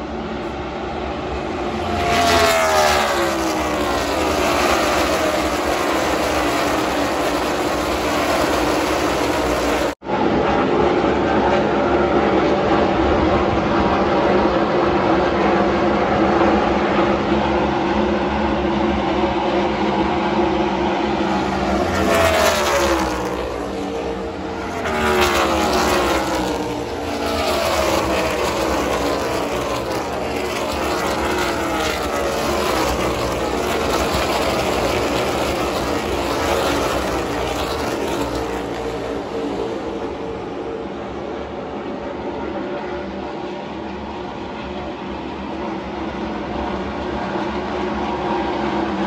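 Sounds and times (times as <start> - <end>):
race car engines droning: 0.0 - 49.0
race cars passing by: 0.0 - 49.0.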